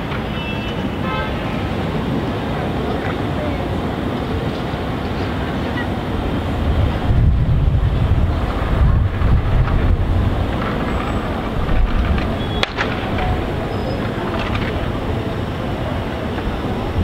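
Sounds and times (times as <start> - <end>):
traffic rumble: 0.0 - 17.0
wind buffeting microphone: 0.0 - 17.0.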